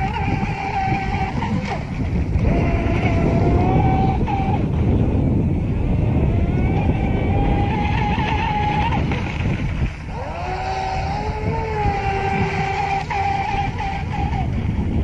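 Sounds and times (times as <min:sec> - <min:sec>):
electric motor whine: 0:00.0 - 0:04.9, 0:05.6 - 0:14.6
wind rumble on microphone: 0:00.0 - 0:15.0.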